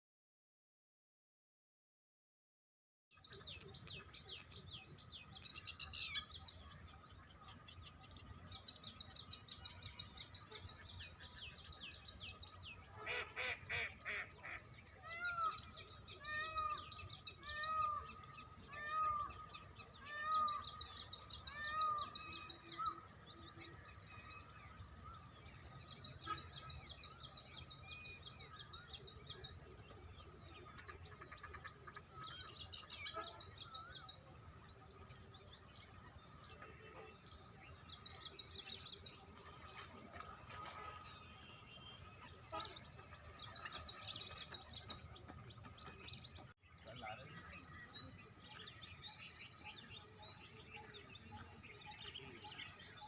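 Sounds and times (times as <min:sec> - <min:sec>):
birds chirping trills: 0:03.2 - 0:53.0.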